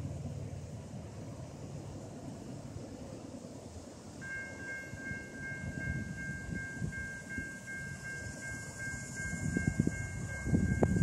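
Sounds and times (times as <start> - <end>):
freight train rumble: 0.0 - 11.0.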